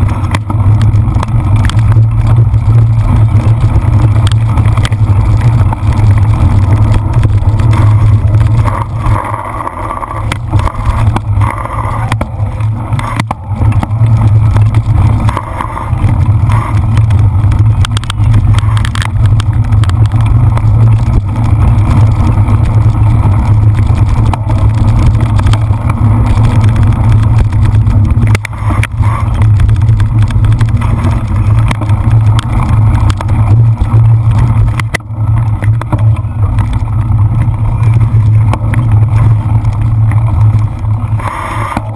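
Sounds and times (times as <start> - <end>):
bike rattling and knocking: 0.0 - 41.9.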